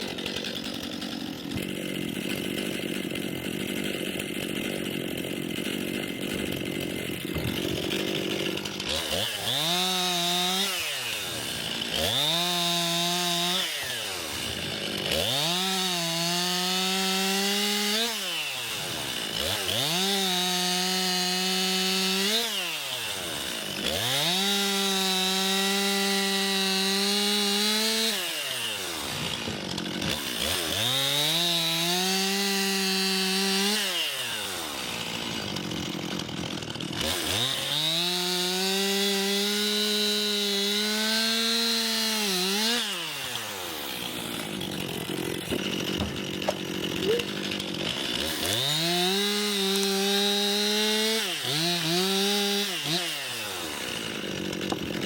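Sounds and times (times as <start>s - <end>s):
chainsaw cutting logs: 0.0s - 55.0s.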